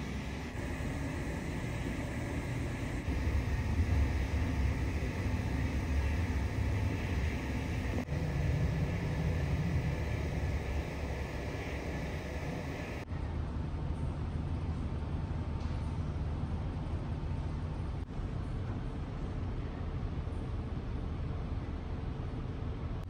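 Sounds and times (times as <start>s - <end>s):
ship engine rumble: 0.0s - 22.9s.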